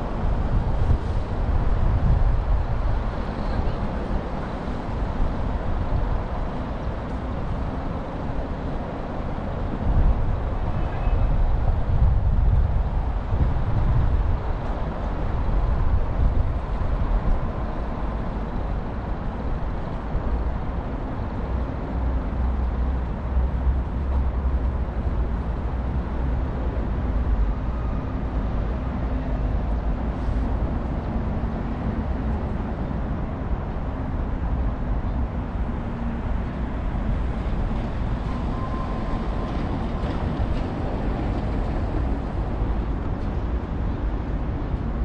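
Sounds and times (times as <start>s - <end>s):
traffic rumble: 0.0s - 45.0s.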